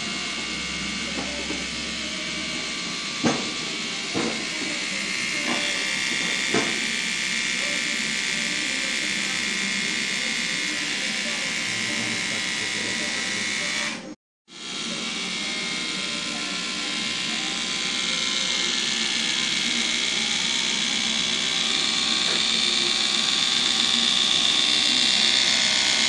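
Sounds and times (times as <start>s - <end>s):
hair trimmer motor whining: 0.0s - 26.0s.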